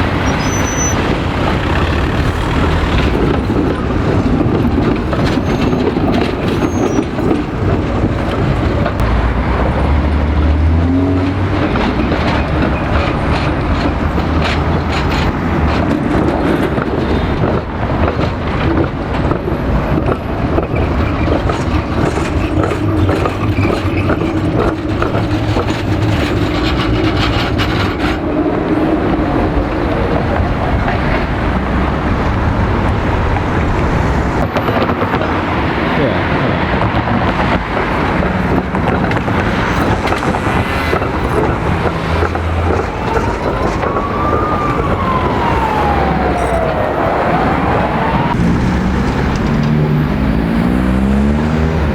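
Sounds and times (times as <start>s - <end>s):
tram rumbling along track: 0.0s - 51.9s
wheels clicking and rattling on rails: 0.0s - 51.9s.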